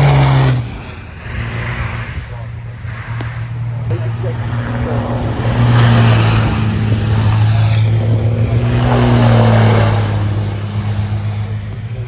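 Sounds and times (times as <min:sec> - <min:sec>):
diesel truck engines racing: 0:00.0 - 0:12.0
truck passing by: 0:00.0 - 0:12.0.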